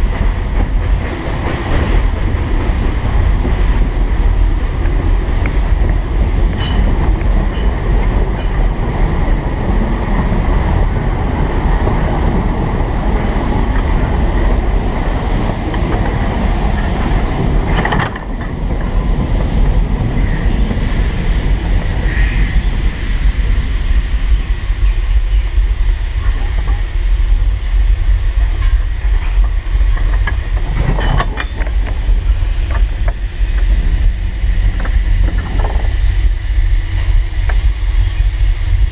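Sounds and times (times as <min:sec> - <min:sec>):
steam train rumbling on track: 0:00.0 - 0:38.9.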